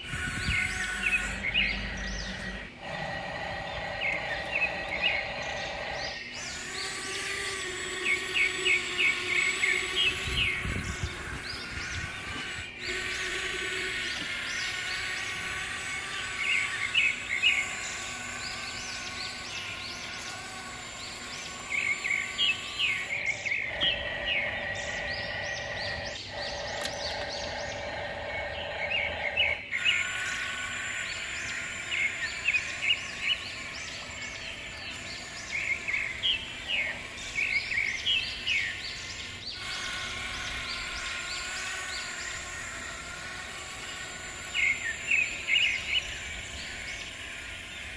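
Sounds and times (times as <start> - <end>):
small birds chirping: 0.0 - 47.9
steady outdoor hum: 0.0 - 47.9.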